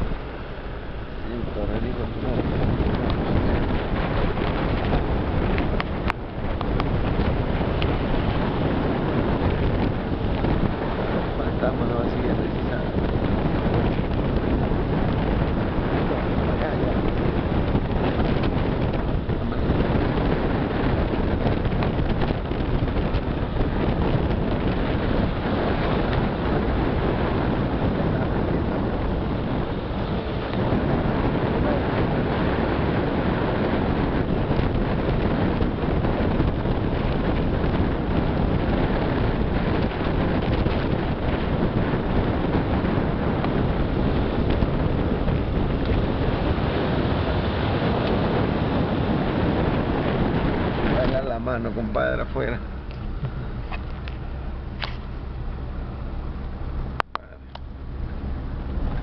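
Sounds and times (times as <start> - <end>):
moving car road and engine noise: 0.0 - 59.0
wind buffeting microphone: 0.0 - 59.0.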